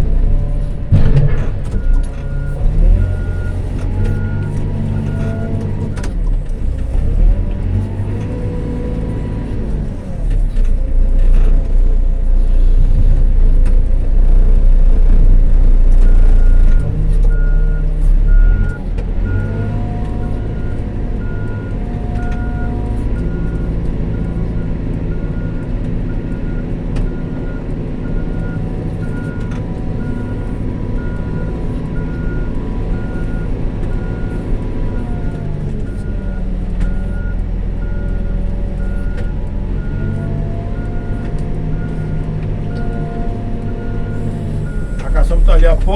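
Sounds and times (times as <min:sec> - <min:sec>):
diesel engine working: 0:00.0 - 0:45.9.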